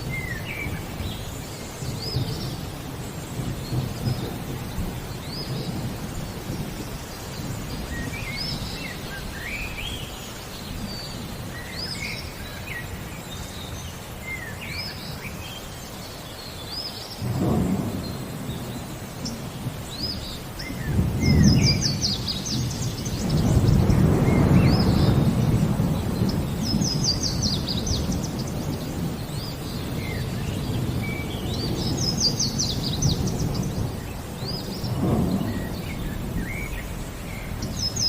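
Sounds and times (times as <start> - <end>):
low thunder rumbling: 0.0 - 15.4, 17.2 - 38.0
light rain: 0.0 - 38.0
songbirds chirping: 0.0 - 38.0.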